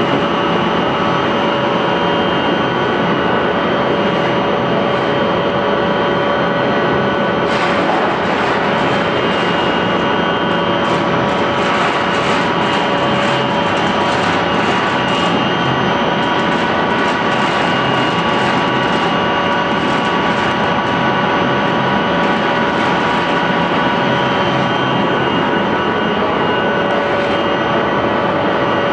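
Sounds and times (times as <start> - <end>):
pellet mill machine din: 0.0 - 28.9.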